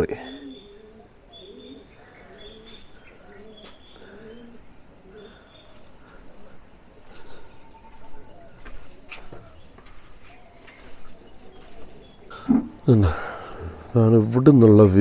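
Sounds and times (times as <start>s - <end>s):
pigeons cooing: 0.0s - 15.0s
small birds chirping: 0.0s - 15.0s.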